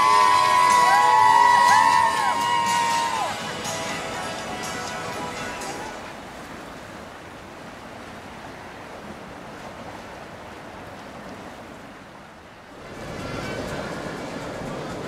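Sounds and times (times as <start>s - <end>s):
water rushing: 0.0s - 15.0s
wind: 0.0s - 15.0s.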